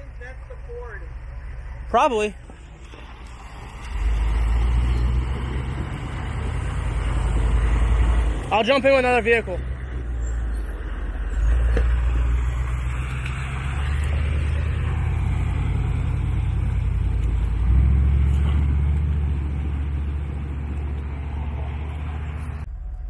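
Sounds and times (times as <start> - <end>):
off-road vehicle engine rumbling: 0.0 - 23.0.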